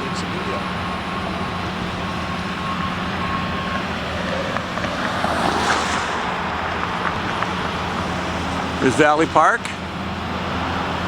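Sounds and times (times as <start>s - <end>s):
diesel locomotive engine running: 0.0s - 11.0s
wheel and rail noise: 0.0s - 11.0s.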